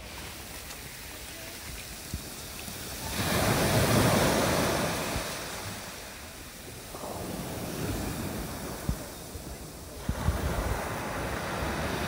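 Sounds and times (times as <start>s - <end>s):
surf washing up the beach: 0.0s - 12.0s.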